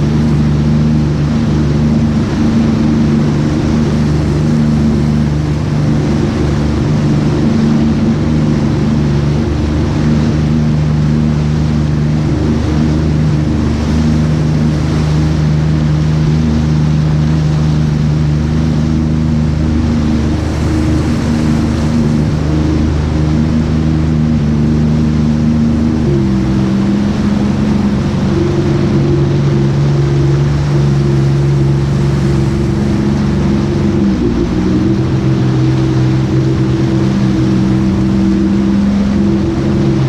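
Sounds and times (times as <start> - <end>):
broad rush of noise: 0.0 - 40.0
jet ski engine running: 0.0 - 40.0.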